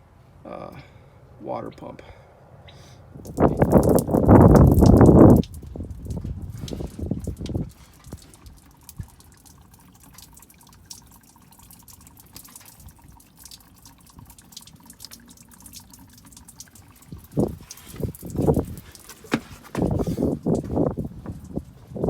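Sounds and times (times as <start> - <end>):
coolant dripping and trickling: 3.2 - 22.0.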